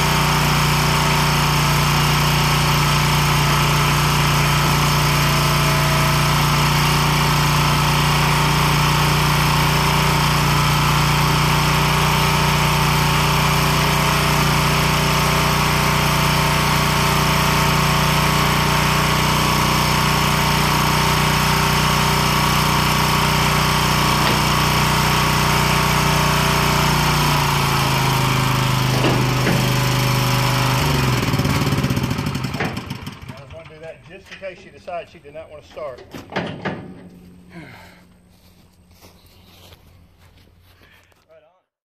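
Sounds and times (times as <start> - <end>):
small gasoline engine running: 0.0 - 34.8, 36.5 - 38.2.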